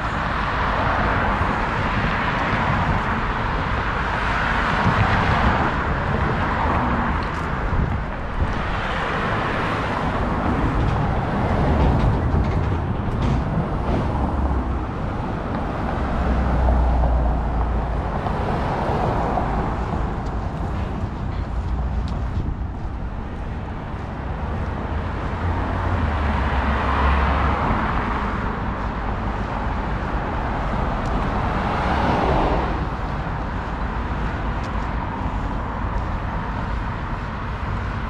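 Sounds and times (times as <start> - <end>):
cars passing: 0.0 - 38.0.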